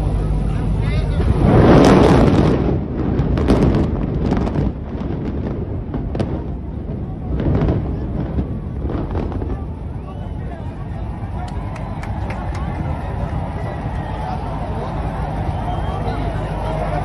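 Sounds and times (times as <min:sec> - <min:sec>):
explosive charges going off: 0:01.0 - 0:17.0.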